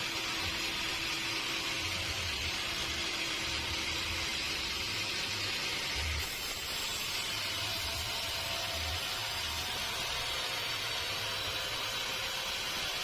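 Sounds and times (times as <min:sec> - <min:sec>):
sawmill machinery hiss: 0:00.0 - 0:13.0.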